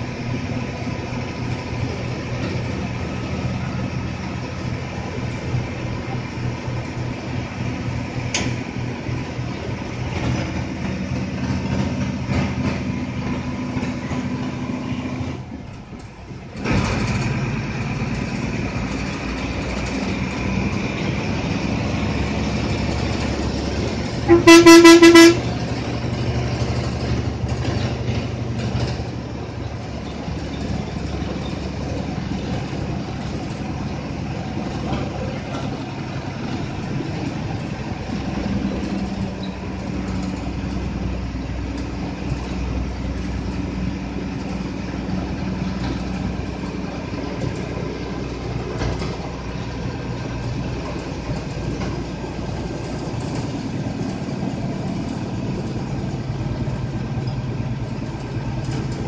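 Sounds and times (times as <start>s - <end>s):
bus diesel engine running: 0.0s - 59.0s
road noise: 0.0s - 59.0s.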